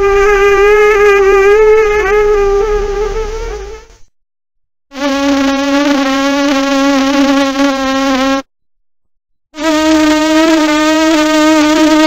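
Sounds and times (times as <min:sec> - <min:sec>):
mosquito buzzing: 0:00.0 - 0:04.0, 0:04.9 - 0:08.5, 0:09.6 - 0:12.0.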